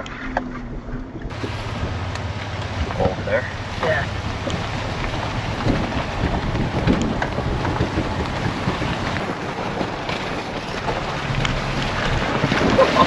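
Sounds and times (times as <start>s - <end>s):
truck engine rumble: 1.3s - 13.0s
tyre and mud noise: 1.3s - 13.0s.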